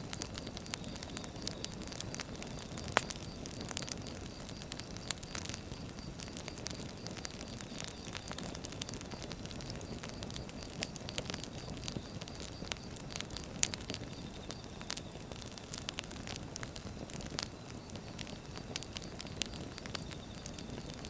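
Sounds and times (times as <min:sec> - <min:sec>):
firewood crackling and popping: 0:00.0 - 0:21.0
low rumble of fire: 0:00.0 - 0:21.0.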